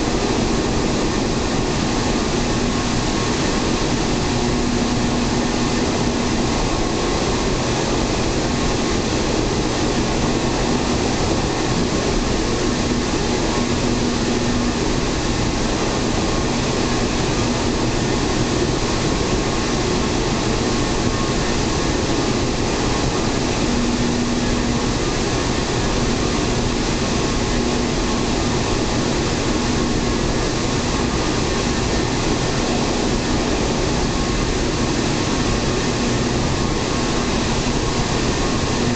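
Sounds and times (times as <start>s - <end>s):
low hum: 0.0s - 38.9s
train rumbling on rails: 0.0s - 38.9s.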